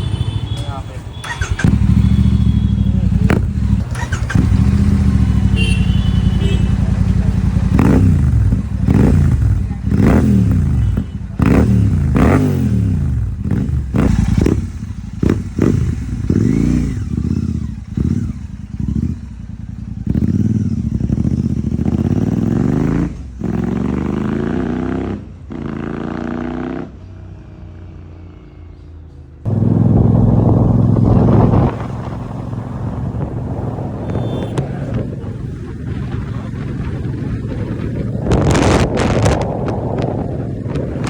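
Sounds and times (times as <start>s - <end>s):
motorcycle engine revving: 0.0s - 27.2s, 29.4s - 41.0s.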